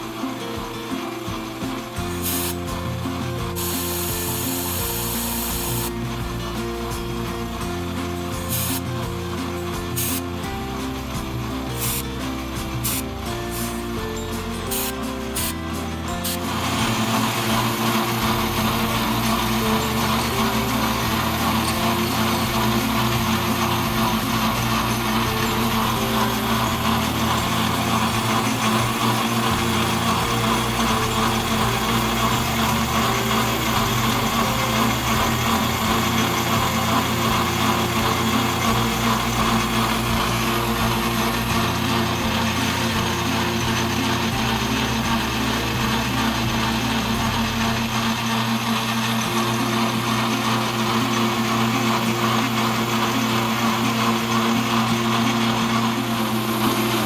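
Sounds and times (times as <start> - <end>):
metal lathe humming: 0.0 - 57.0.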